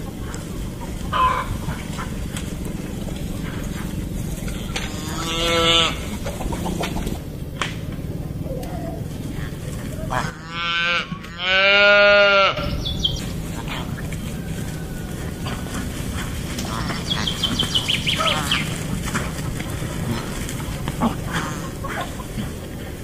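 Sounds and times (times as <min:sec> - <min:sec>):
calves bawling: 0:00.0 - 0:23.0.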